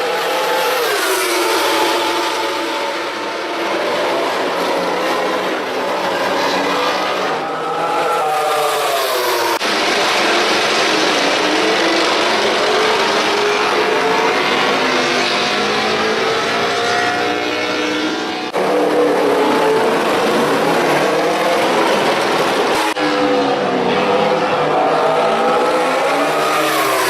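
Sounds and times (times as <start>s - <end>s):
racing motorcycle engines revving: 0.0s - 27.0s.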